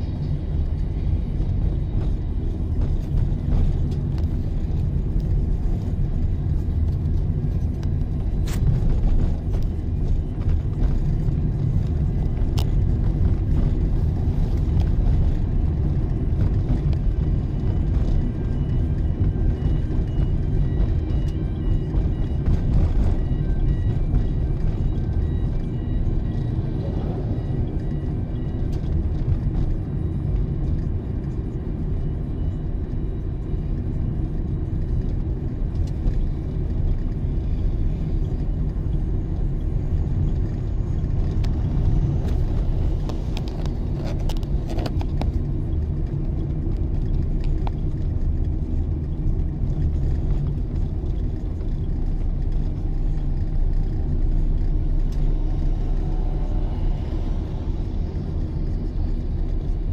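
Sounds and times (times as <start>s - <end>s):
vehicle engine and tyres rumbling: 0.0s - 59.9s.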